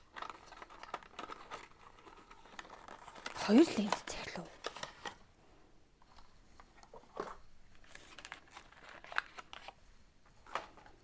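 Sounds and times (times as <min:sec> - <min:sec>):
packaging crinkling and rustling: 0:00.0 - 0:05.3, 0:06.0 - 0:11.0.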